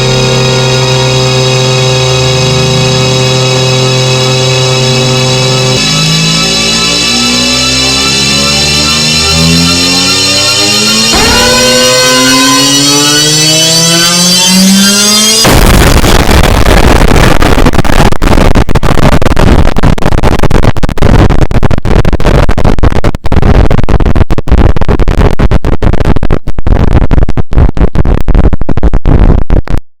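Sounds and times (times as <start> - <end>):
heavily distorted loud noise: 0.0 - 29.9.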